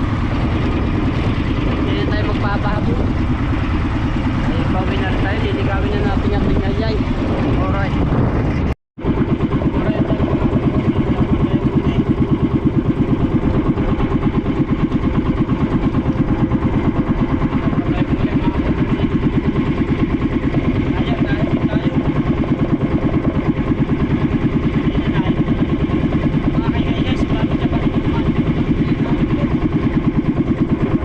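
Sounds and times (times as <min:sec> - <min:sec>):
small boat engine putting: 0:00.0 - 0:31.0.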